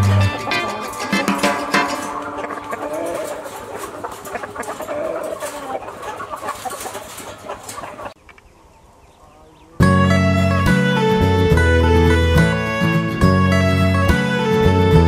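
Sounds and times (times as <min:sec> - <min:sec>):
roosters clucking and calling: 0:00.0 - 0:13.0.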